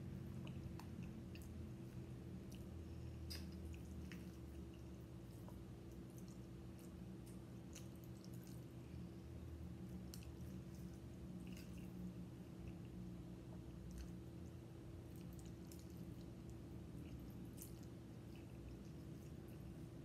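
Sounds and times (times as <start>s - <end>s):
steady low hum: 0.0s - 20.0s
wet chewing and mouth smacks: 0.2s - 8.8s, 9.8s - 20.0s.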